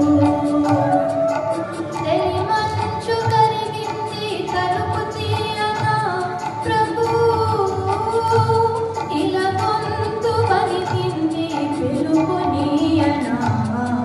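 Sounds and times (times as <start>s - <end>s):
girl singing into microphone: 0.0s - 14.0s.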